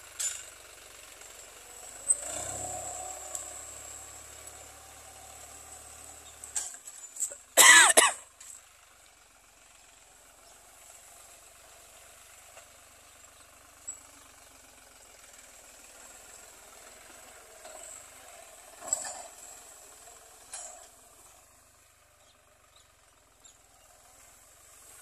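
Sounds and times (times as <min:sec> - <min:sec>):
faint tractor engine running: 0:00.0 - 0:25.0.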